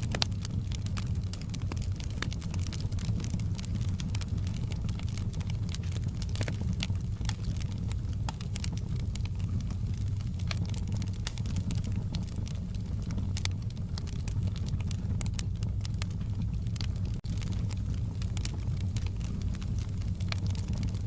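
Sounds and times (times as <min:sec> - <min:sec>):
low rumble of burning logs: 0:00.0 - 0:21.0
wood fire crackling: 0:00.0 - 0:21.0.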